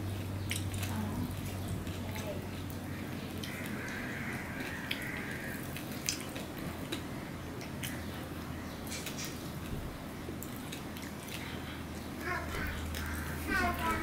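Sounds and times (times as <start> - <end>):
chewing: 0.0 - 9.7, 10.3 - 14.0.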